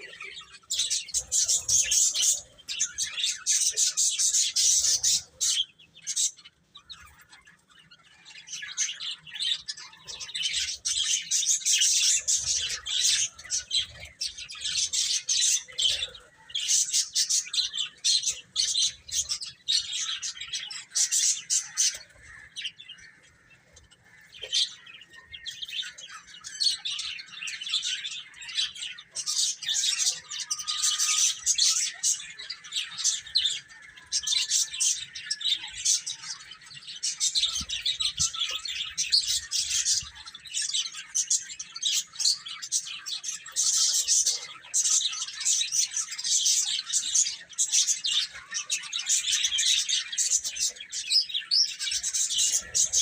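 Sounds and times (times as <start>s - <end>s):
baby chicks peeping: 0.0s - 53.0s.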